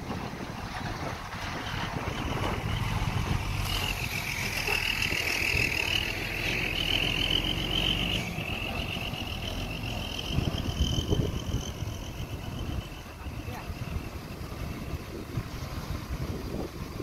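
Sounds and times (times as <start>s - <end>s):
heavy machine engine running: 0.0s - 17.0s
high whine: 1.5s - 15.8s.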